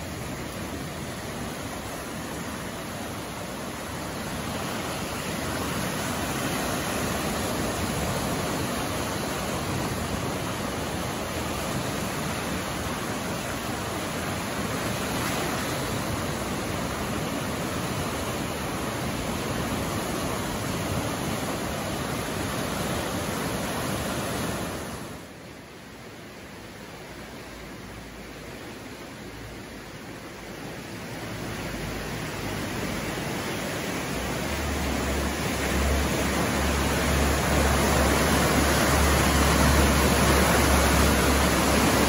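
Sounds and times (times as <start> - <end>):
flooded river rushing: 0.0 - 42.0.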